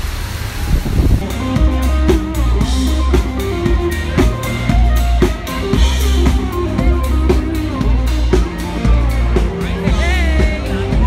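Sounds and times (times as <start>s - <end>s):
band music: 0.0s - 11.0s
drum kit beat: 1.2s - 11.0s.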